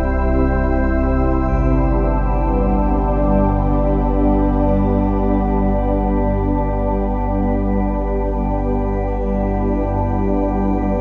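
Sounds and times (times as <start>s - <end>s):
low drone: 0.0s - 11.0s
meditative synthesizer music: 0.0s - 11.0s.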